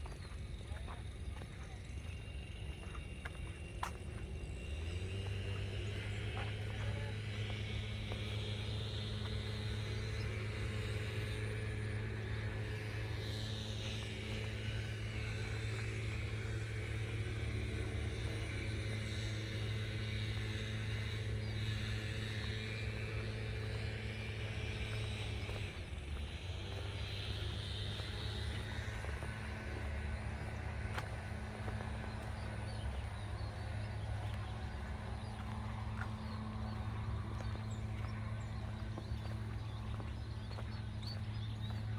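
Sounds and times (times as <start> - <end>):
low engine drone: 0.0 - 41.9
wavering high whine: 1.2 - 41.9.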